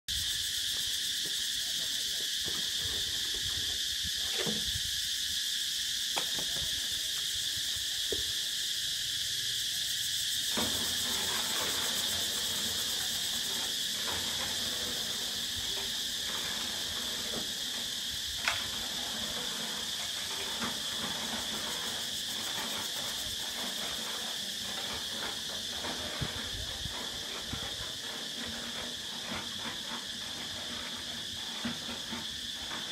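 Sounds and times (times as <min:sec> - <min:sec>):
high-pitched insect drone: 0:00.1 - 0:32.9.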